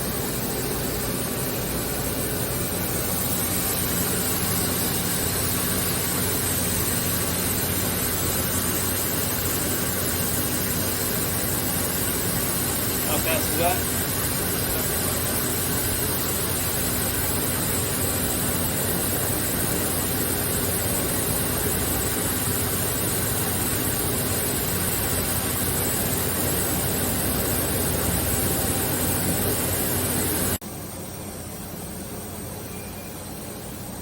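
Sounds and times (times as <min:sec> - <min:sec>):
faint steady machine tones: 0:00.0 - 0:34.0
machine hum and hiss: 0:00.0 - 0:34.0.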